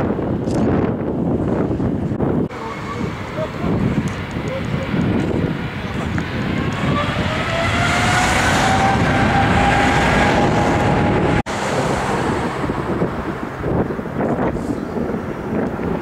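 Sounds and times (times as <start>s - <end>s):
jet rumble: 0.0s - 16.0s
wind on microphone: 0.0s - 16.0s
jet engine fan whine: 1.0s - 16.0s.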